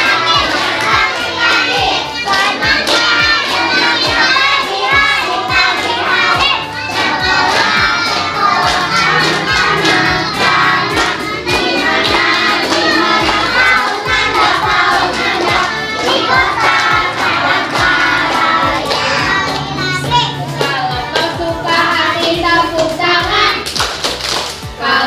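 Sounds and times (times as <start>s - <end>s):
children and adults singing: 0.0s - 23.7s, 24.8s - 25.0s
rhythmic hand clapping: 0.0s - 25.0s.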